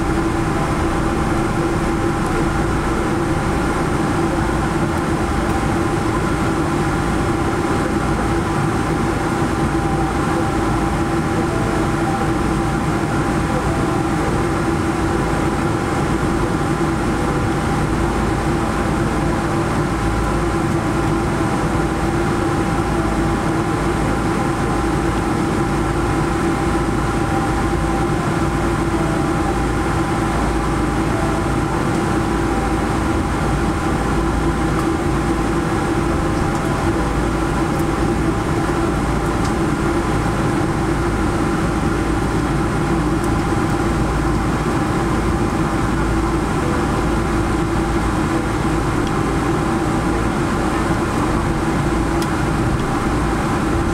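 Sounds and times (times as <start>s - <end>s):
airplane cabin drone: 0.0s - 53.9s.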